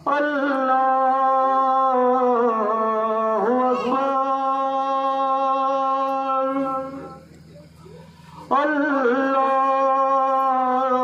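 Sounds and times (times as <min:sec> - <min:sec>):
man chanting call to prayer: 0:00.0 - 0:11.0.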